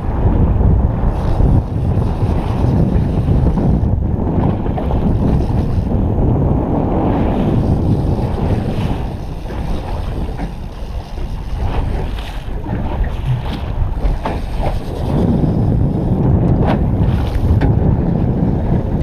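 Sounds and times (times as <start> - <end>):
boat hull and water noise: 0.0 - 19.0
wind rumbling on microphone: 0.0 - 19.0.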